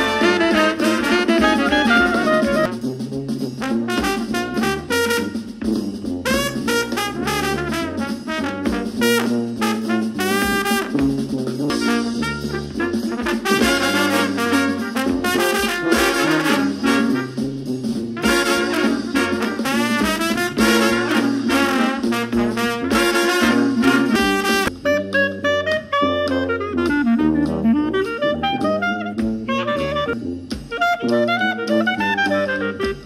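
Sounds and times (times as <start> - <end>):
upbeat jazz with brass: 0.0 - 33.0.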